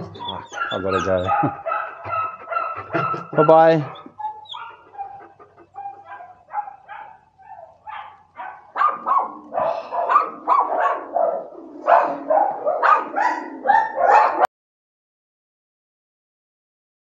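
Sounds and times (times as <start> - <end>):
dogs barking: 0.0 - 14.5.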